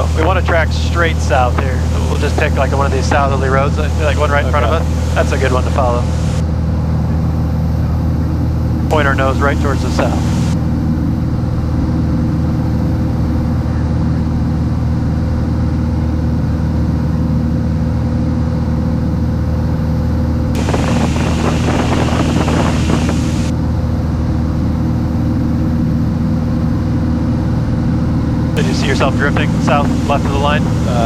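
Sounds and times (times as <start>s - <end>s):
propeller plane engine droning: 0.0s - 31.0s.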